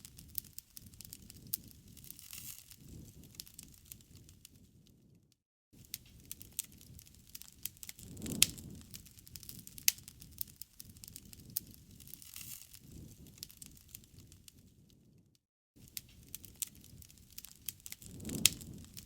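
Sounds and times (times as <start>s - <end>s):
campfire pops and snaps: 0.0s - 5.0s, 5.8s - 15.0s, 15.8s - 19.0s
rush of burning flames: 0.0s - 5.2s, 5.8s - 15.2s, 15.8s - 19.0s.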